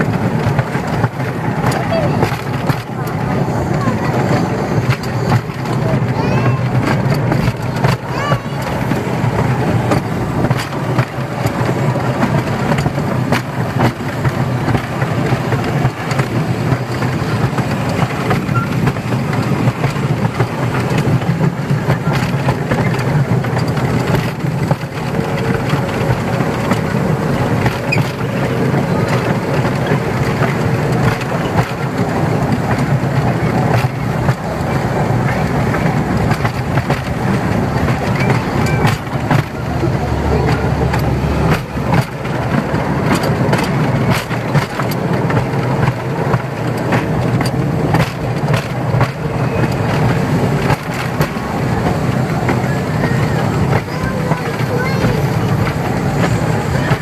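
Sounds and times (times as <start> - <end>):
miniature train rumbling: 0.0 - 57.0
wheels clicking and knocking: 0.0 - 57.0.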